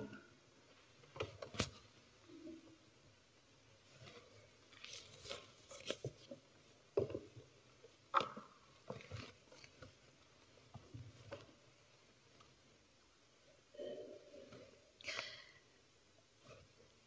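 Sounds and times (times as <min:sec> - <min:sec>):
faint rustling and shuffling: 0:00.0 - 0:15.1, 0:16.0 - 0:17.0.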